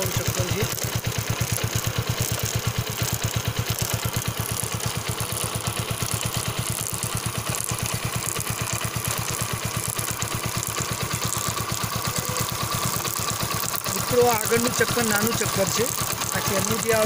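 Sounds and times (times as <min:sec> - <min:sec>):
drive chain running: 0:00.0 - 0:17.0
motorcycle engine idling: 0:00.0 - 0:17.0.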